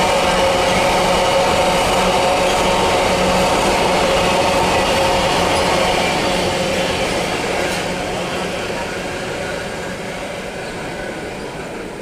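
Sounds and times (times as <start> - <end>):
freight wagon wheels rumbling on rails: 0.0 - 12.0.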